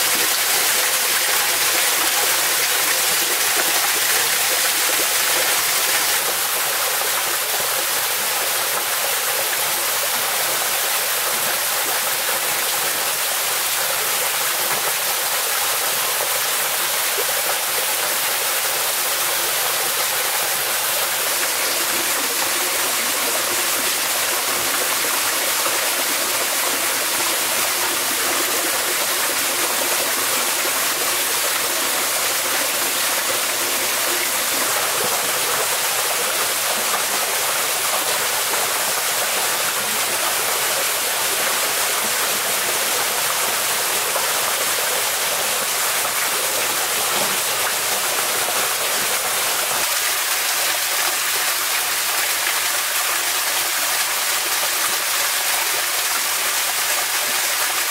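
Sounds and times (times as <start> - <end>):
waterfall and stream rushing: 0.0 - 57.9.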